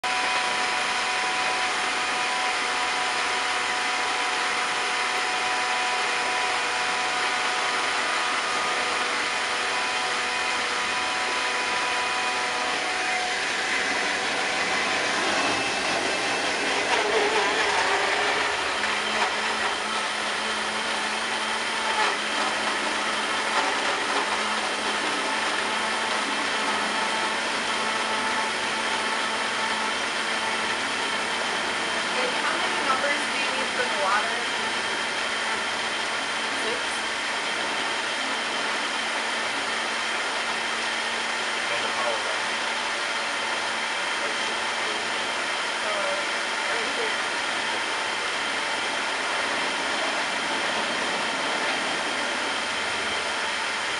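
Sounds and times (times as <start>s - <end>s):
high wheel whine: 0.0s - 53.9s.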